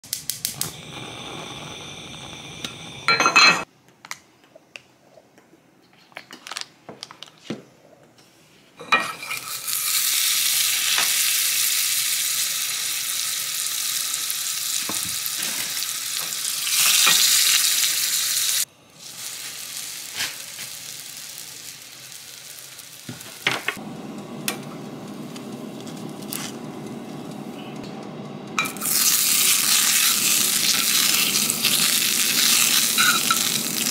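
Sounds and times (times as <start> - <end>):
food sizzling in a pan: 0.2 - 3.7, 8.8 - 27.5, 28.6 - 33.9.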